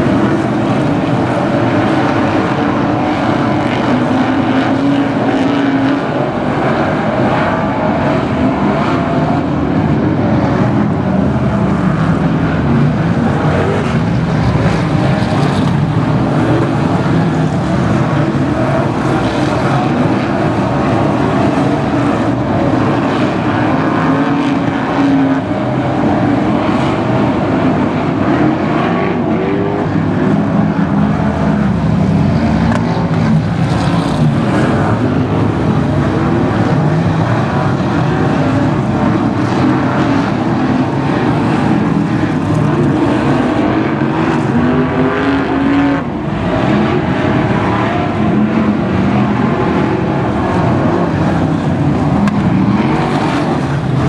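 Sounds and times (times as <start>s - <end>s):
stock car engines rumbling: 0.0s - 54.0s.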